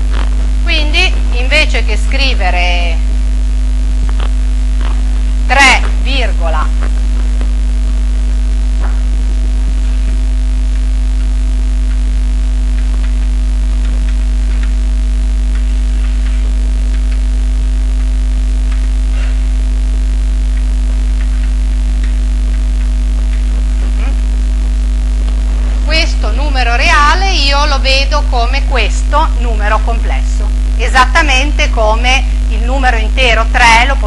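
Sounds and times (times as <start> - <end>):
electrical mains hum: 0.0 - 34.0
faint buzz: 0.0 - 34.0.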